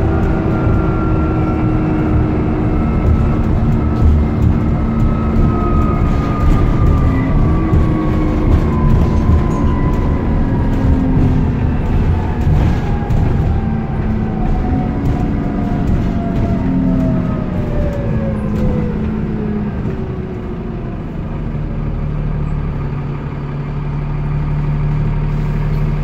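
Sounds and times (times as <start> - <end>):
bus engine whine: 0.0 - 26.0
low engine note: 0.0 - 26.0.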